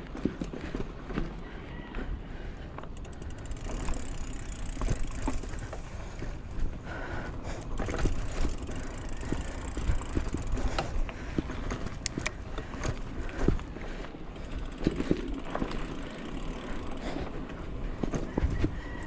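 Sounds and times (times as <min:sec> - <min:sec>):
bike rattling over bumps: 0:00.0 - 0:19.0
bike tyre noise on dirt: 0:00.0 - 0:19.0
wind rumbling on microphone: 0:01.1 - 0:19.0.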